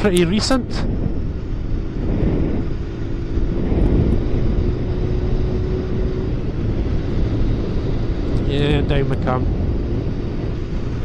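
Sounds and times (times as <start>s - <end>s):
motorcycle engine and road rumble: 0.0s - 11.0s.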